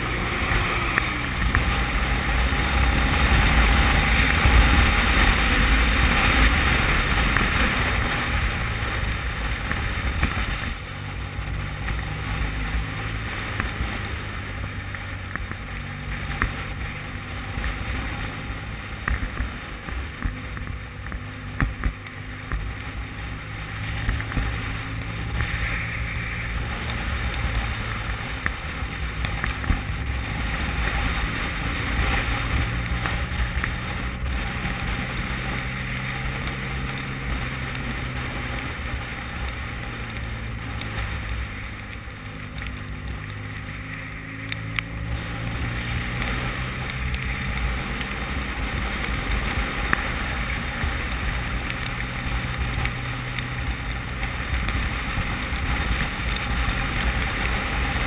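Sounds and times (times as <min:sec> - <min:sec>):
motorcycle engine drone: 0:00.0 - 0:58.0.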